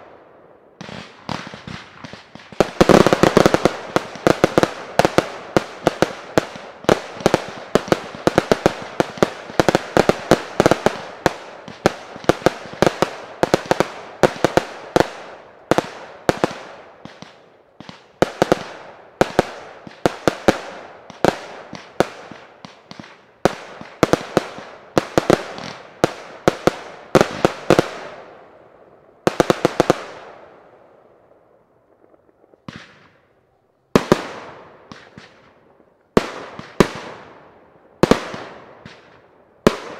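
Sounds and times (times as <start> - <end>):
fireworks bangs: 0.8 - 30.6, 31.8 - 39.9.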